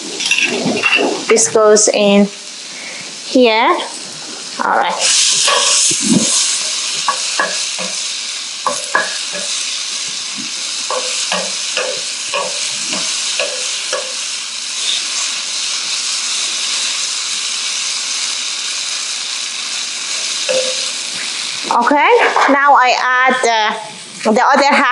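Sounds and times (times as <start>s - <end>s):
tofu sizzling in a pan: 1.6s - 24.9s.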